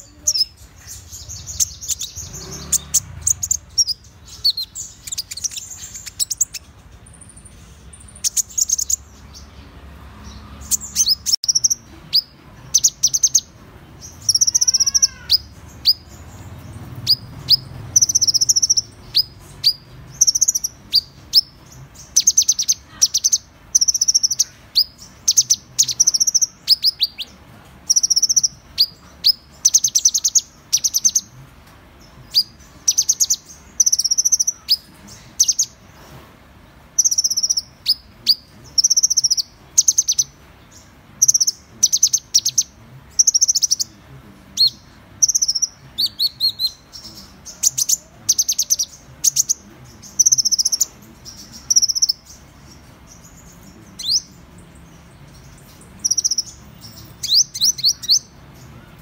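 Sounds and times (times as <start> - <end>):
bird chipping and twittering: 0.0 - 59.0.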